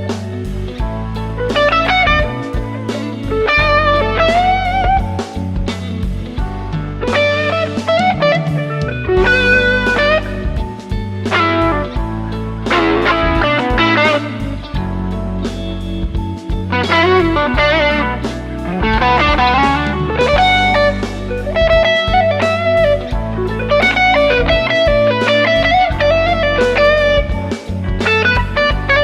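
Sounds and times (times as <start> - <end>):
electric guitar lead lines: 0.0 - 29.0
steady low notes: 0.0 - 29.0.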